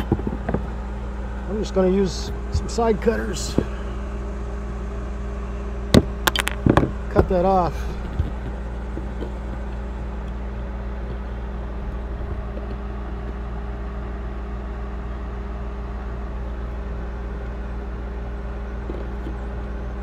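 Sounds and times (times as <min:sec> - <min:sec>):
air conditioners humming: 0:00.0 - 0:20.0.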